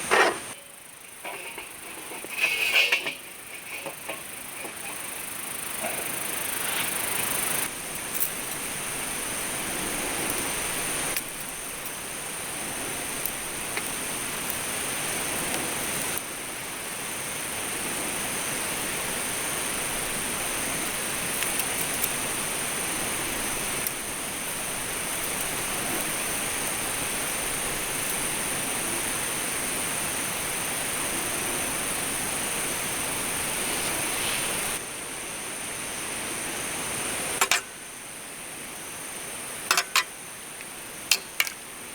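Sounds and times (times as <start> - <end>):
steady hiss-like noise: 0.0 - 41.9.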